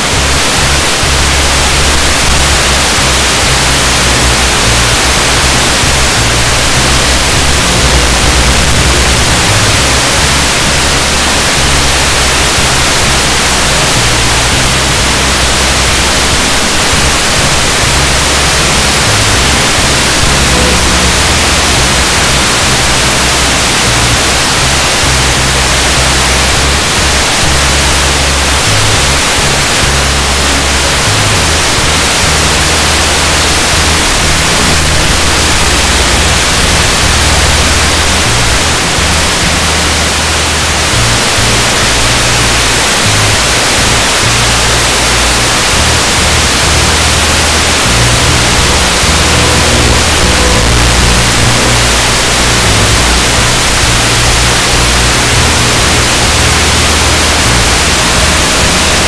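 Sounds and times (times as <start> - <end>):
music bass line: 0.0 - 59.0
static hiss: 0.0 - 59.0.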